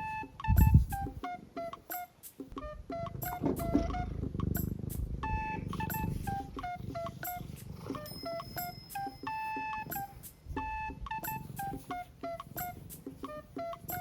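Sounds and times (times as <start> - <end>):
electronic beep-like melody: 0.0 - 2.0, 2.6 - 14.0.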